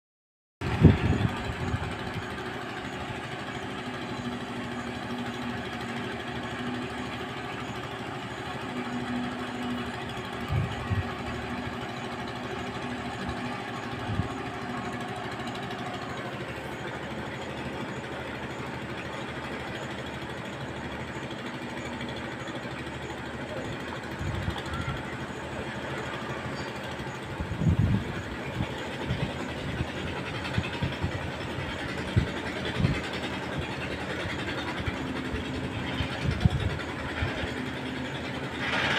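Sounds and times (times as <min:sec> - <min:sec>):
concrete mixer engine running: 0:00.6 - 0:38.9.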